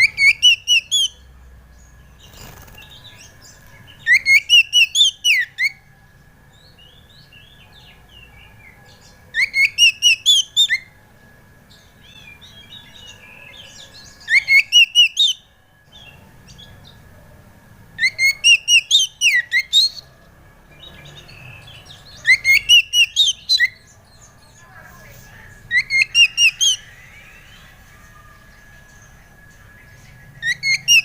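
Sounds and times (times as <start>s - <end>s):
bird whistled song: 0.0s - 5.9s, 6.5s - 11.0s, 11.8s - 17.0s, 18.0s - 20.1s, 20.7s - 24.6s, 25.7s - 31.0s.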